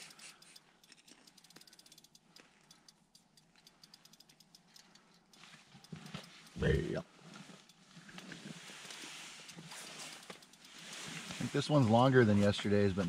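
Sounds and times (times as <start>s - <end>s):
faint rapid ratchet clicking: 0.0s - 11.4s.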